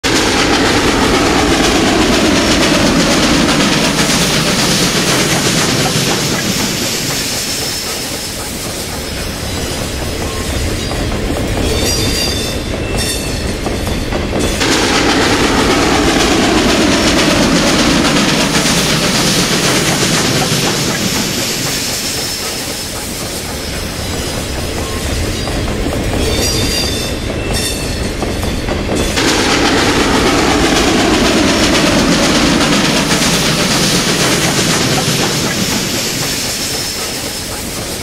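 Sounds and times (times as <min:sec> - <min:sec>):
steam locomotive running hard: 0:00.0 - 0:38.0.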